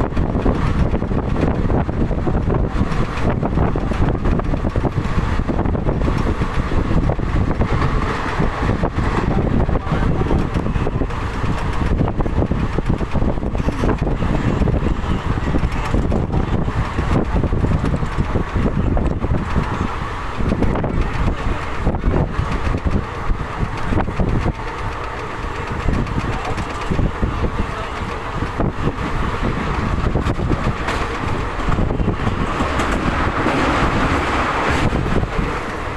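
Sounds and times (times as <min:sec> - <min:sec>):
passenger train running: 0:00.0 - 0:35.9
wind on microphone: 0:00.0 - 0:35.9.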